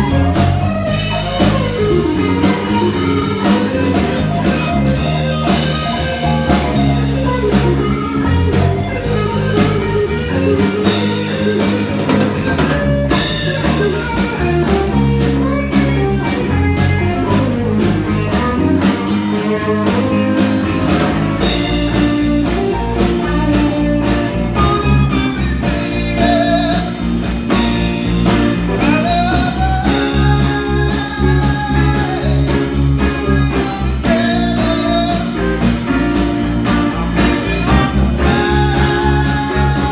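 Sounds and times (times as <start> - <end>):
bass guitar: 0.0 - 39.9
drum kit: 0.0 - 39.9
electric lead guitar: 0.0 - 39.9.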